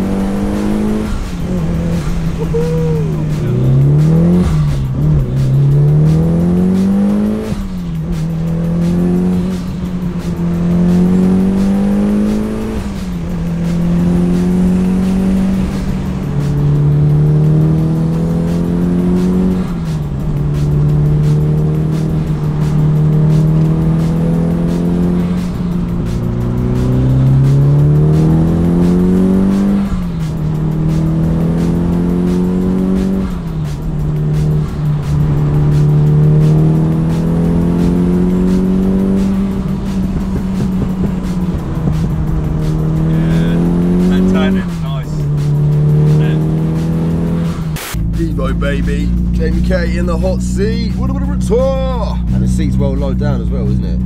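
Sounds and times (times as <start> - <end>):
car engine accelerating through gears: 0.0 - 54.0.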